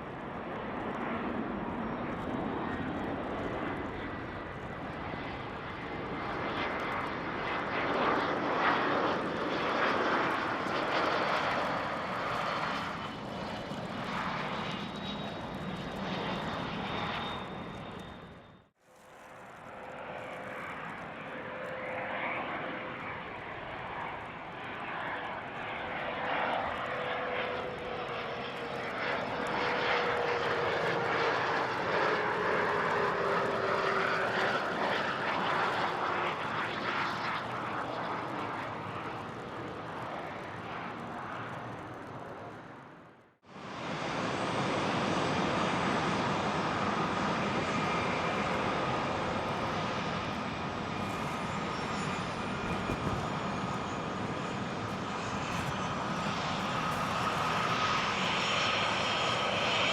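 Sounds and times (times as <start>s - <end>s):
jet engine whine: 0.0s - 59.9s.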